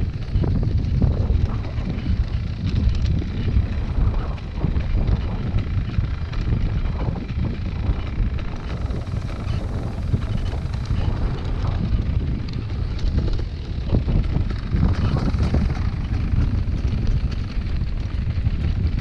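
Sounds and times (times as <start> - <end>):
motocross bikes running: 0.0 - 19.0
wind buffeting microphone: 0.0 - 19.0.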